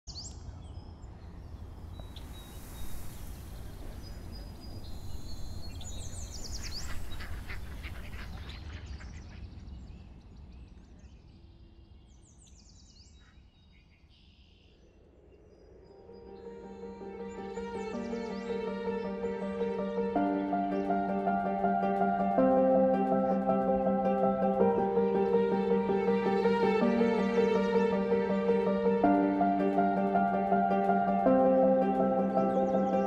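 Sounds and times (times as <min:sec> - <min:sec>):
birds chirping and trilling: 0:00.1 - 0:33.0.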